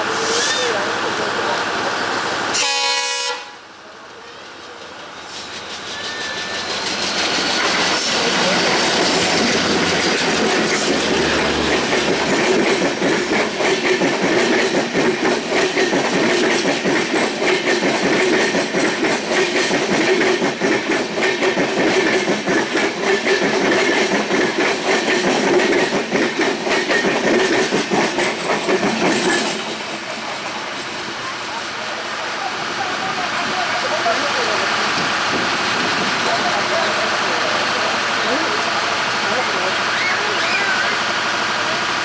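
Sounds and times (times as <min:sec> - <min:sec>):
train running noise: 0:00.0 - 0:42.0
train wheels clickety-clack: 0:04.1 - 0:31.6, 0:32.9 - 0:42.0.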